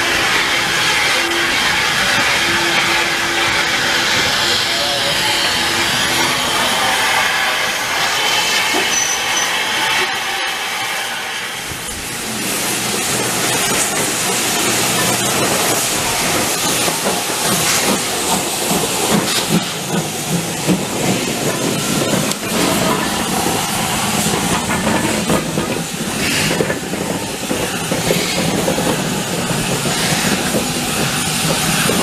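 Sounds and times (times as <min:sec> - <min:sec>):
steam hissing: 0:00.0 - 0:32.0
steam locomotive exhaust beat: 0:00.0 - 0:32.0.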